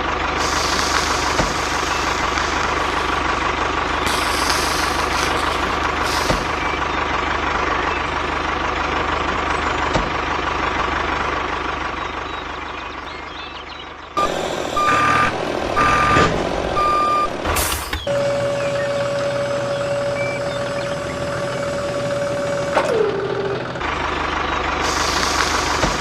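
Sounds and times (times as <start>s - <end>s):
small engine running: 0.0s - 17.2s, 18.1s - 26.0s.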